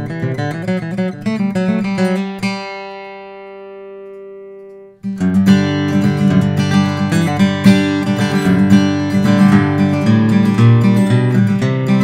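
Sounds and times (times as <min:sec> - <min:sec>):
acoustic guitar picked notes: 0:00.0 - 0:12.0
strummed guitar chords: 0:00.0 - 0:12.0.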